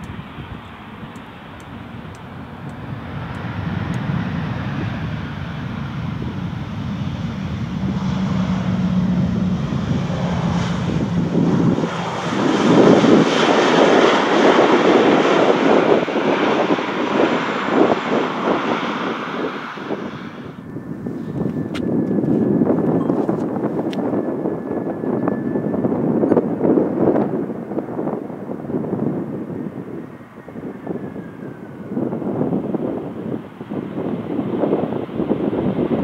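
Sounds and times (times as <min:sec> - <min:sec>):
loud engine rushing: 0:00.0 - 0:36.0.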